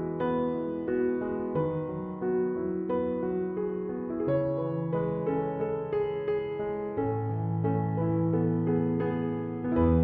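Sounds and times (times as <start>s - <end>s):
slow soft piano music: 0.0s - 10.0s.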